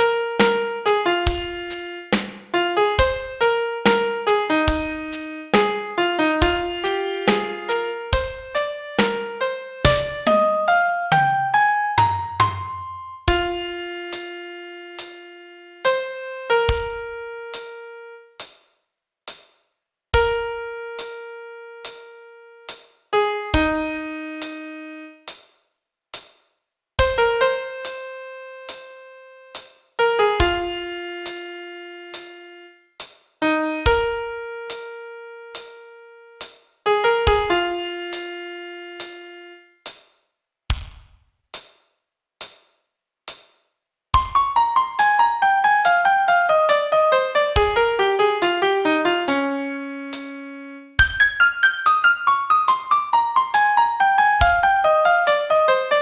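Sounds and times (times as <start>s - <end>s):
slow piano melody: 0.0s - 18.3s, 20.2s - 25.2s, 27.0s - 32.8s, 33.4s - 39.6s, 44.4s - 56.0s.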